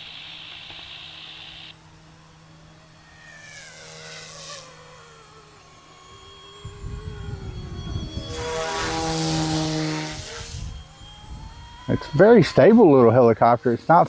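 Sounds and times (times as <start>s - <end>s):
rc helicopter motor and rotors: 0.0s - 14.0s.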